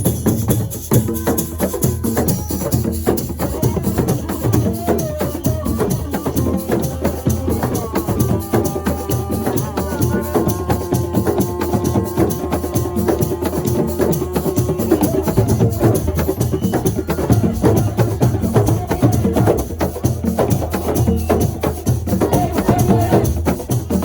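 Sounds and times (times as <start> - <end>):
fast drum rhythm: 0.0 - 24.0.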